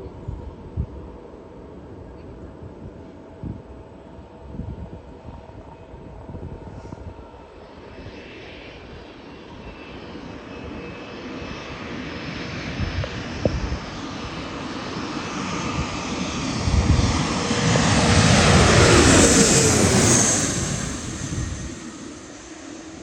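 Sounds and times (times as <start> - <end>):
airliner engines passing overhead: 0.0 - 23.0.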